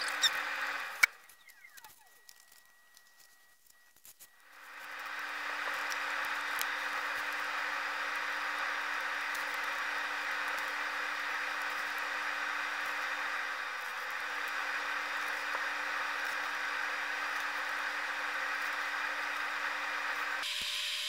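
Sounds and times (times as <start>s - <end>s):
mechanical whir: 0.0s - 21.0s.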